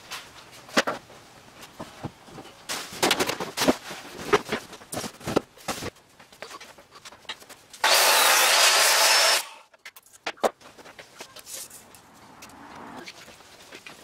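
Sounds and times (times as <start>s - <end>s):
wood and tools clattering: 0.0s - 12.1s.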